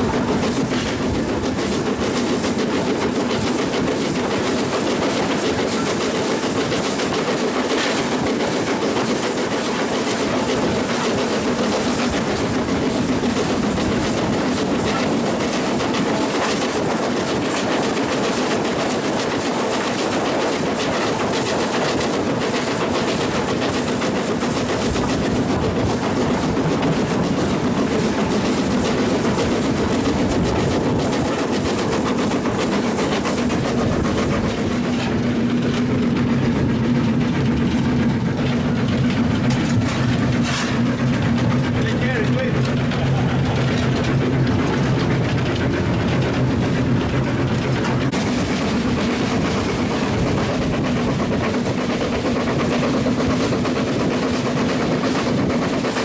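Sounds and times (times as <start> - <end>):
steam locomotive running on track: 0.0 - 56.0.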